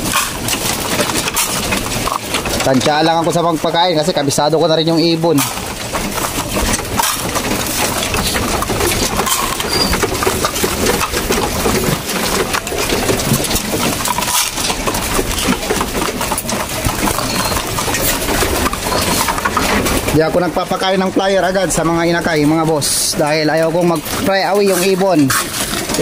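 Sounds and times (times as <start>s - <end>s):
grain clattering in plastic feeders: 0.0s - 26.0s
pigeons pecking: 0.0s - 26.0s.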